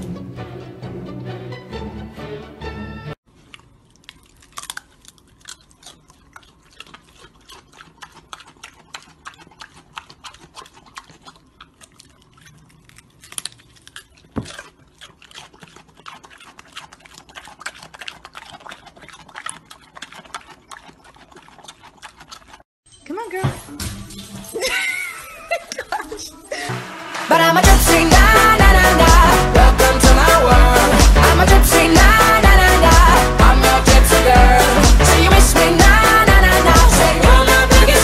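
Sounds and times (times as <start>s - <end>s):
pig chewing crunchy vegetable: 3.2s - 23.4s, 27.6s - 38.0s.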